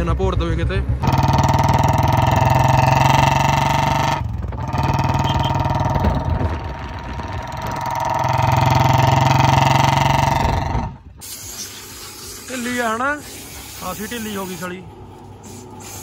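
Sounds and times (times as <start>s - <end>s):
motorcycle engine and exhaust: 0.0s - 13.8s.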